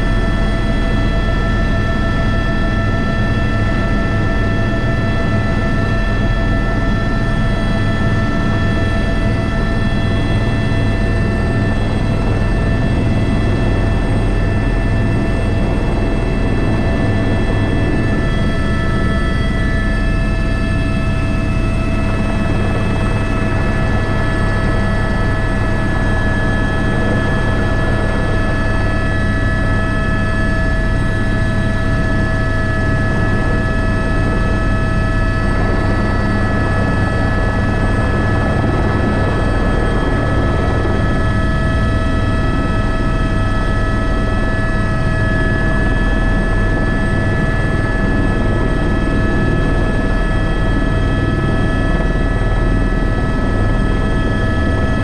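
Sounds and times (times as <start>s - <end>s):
helicopter rotor throb: 0.0s - 55.0s
turbine whine: 0.0s - 55.0s.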